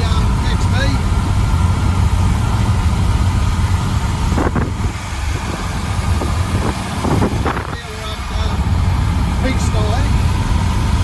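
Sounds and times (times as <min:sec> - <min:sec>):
engine idling with misfire: 0:00.0 - 0:11.0.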